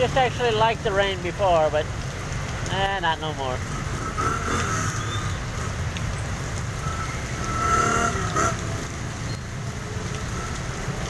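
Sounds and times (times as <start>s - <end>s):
cars passing on wet street: 0.0s - 11.0s
heavy rain: 0.0s - 11.0s.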